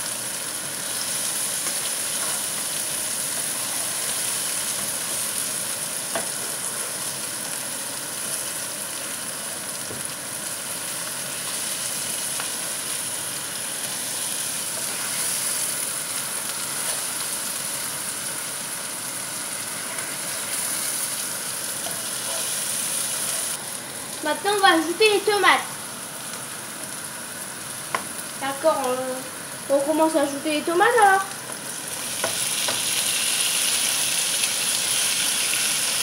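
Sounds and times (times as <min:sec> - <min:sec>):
onions sizzling in hot oil: 0:00.0 - 0:36.0.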